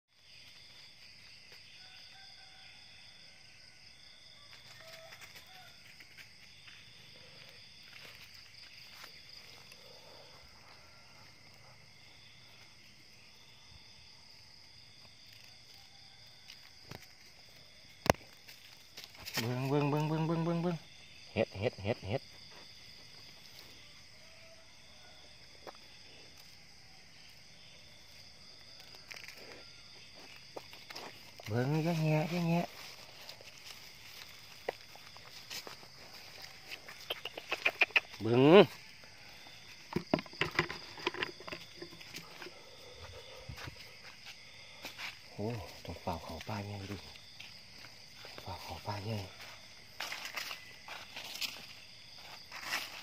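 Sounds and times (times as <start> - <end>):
night insects chirring: 0.1 - 53.0.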